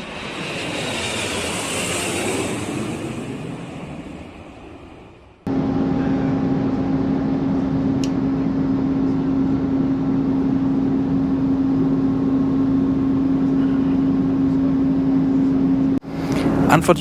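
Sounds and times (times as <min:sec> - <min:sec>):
airliner cabin roar: 0:00.0 - 0:17.0
constant hum: 0:00.0 - 0:17.0.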